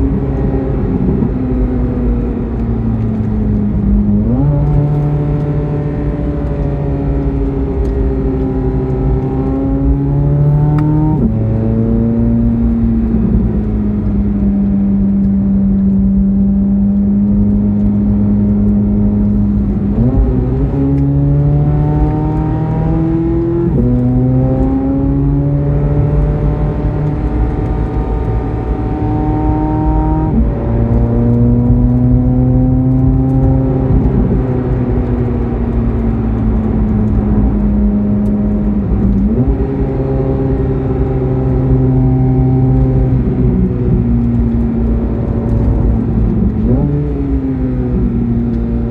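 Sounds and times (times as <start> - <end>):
car engine under load: 0.0 - 48.9.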